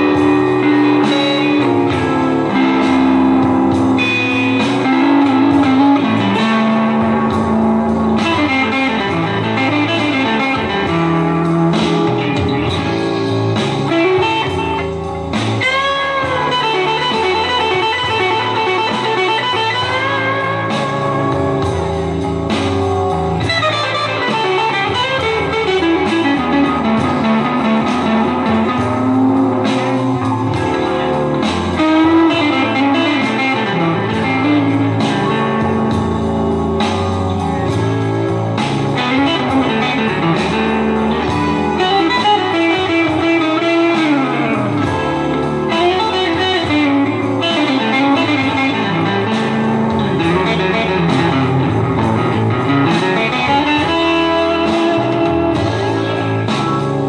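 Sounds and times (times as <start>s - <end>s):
electric guitar blues solo: 0.0s - 57.0s.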